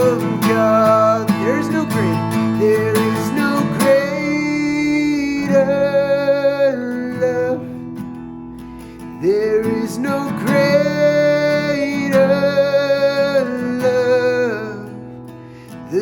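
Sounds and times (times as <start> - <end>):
worship song with acoustic guitar: 0.0 - 16.0.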